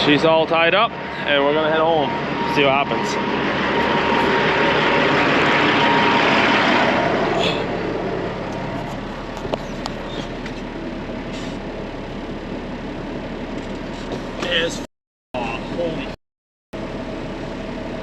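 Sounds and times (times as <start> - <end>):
vehicle engine and road noise: 0.0 - 16.2, 16.8 - 18.0.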